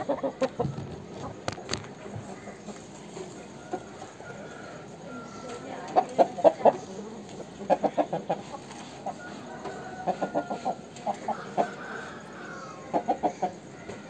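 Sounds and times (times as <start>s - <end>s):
rooster clucking: 0.0s - 14.0s.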